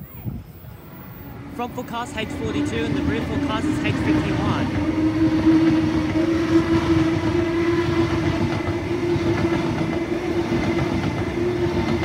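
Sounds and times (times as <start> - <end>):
train hum: 0.0 - 12.0
train wheels rushing on rail: 0.1 - 12.0.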